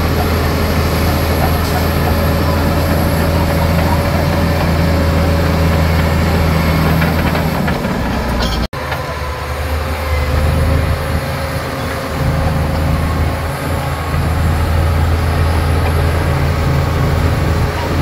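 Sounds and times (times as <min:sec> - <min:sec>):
diesel engine drone with whine: 0:00.0 - 0:18.0.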